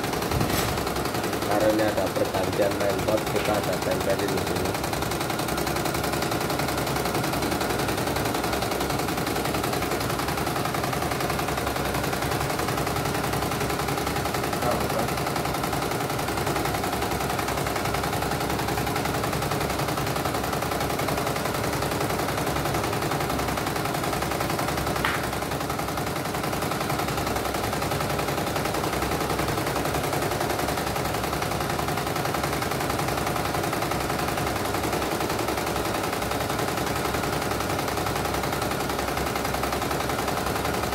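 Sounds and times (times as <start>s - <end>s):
embroidery machine needle rattle: 0.0s - 40.9s.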